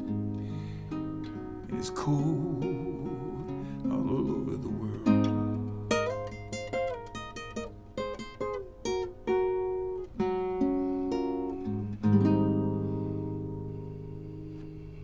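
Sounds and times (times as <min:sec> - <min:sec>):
nylon-string guitar plucking: 0:00.0 - 0:15.0.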